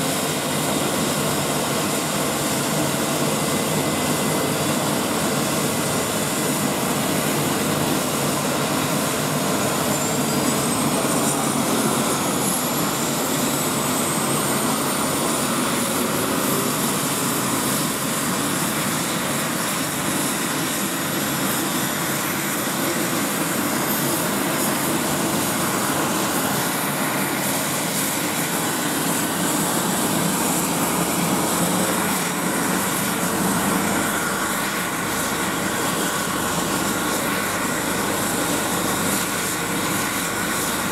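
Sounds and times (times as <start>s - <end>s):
helicopter rotor and turbine noise: 0.0s - 40.9s
high turbine whine: 0.0s - 40.9s.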